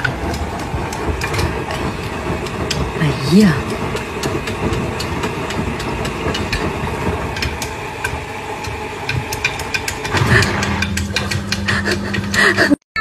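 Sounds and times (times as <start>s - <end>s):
steady hum: 0.0s - 13.0s
washing machine rumbling: 0.0s - 13.0s.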